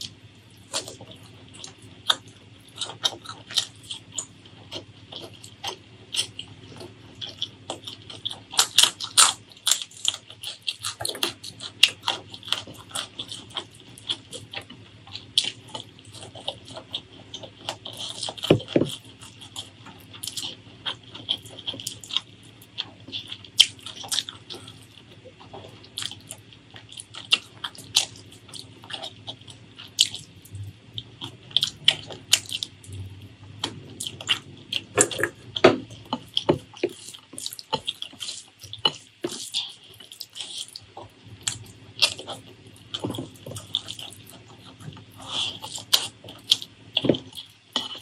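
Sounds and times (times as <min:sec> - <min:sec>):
wet chewing and lip smacks: 0:00.0 - 0:48.0.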